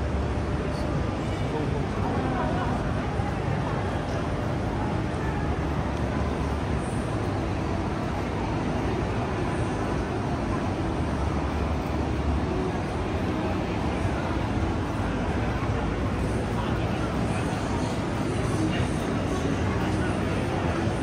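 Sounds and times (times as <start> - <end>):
city street noise: 0.0 - 21.0.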